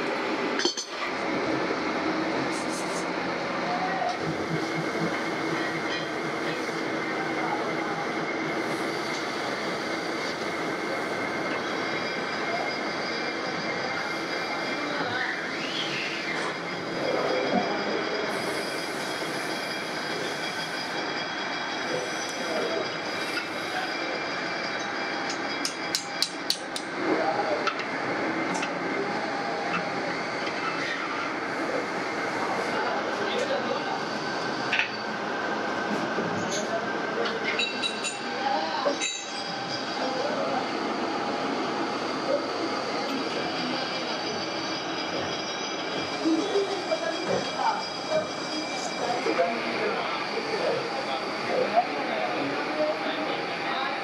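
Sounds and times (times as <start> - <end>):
workshop machinery running: 0.0 - 54.0.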